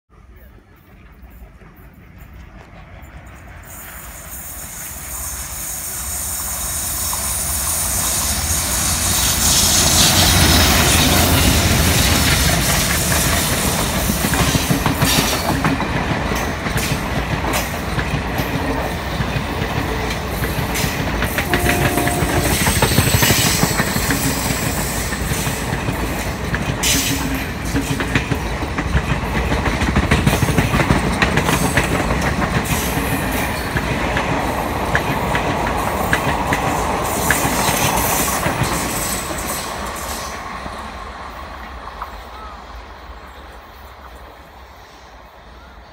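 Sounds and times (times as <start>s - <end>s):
train wheels clickety-clack: 0.1s - 44.7s
locomotive engines rumbling: 0.1s - 45.9s.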